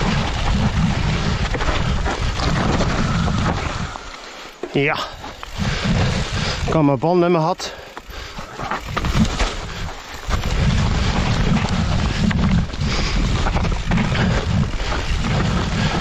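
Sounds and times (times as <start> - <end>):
wind buffeting microphone: 0.0 - 4.2, 5.0 - 7.0, 8.0 - 16.0
bike tyres over leaves and stones: 0.0 - 16.0.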